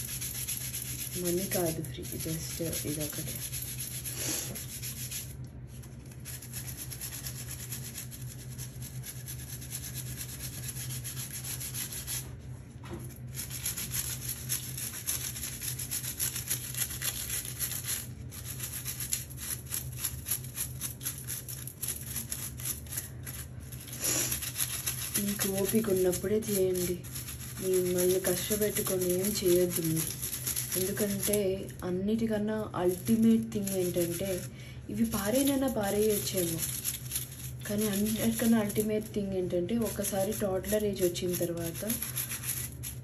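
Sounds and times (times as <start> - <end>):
brush scrubbing foam toy: 0.0 - 12.5, 13.1 - 43.0.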